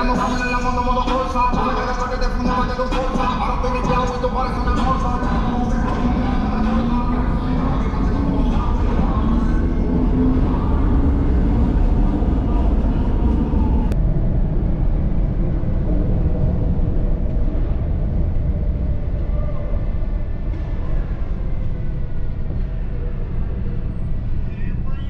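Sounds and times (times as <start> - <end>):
vehicle low rumble: 0.0 - 25.0.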